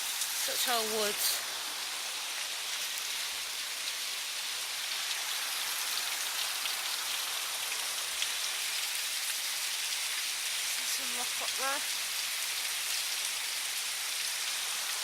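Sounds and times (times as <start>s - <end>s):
falling water hissing: 0.0s - 15.0s.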